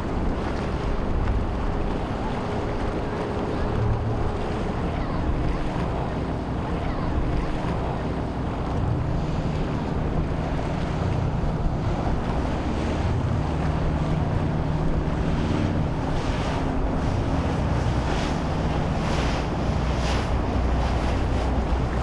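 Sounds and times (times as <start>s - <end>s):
boat engines humming: 0.0s - 22.0s
rushing wake water: 0.0s - 22.0s
surf: 0.0s - 22.0s
wind buffeting microphone: 0.0s - 22.0s.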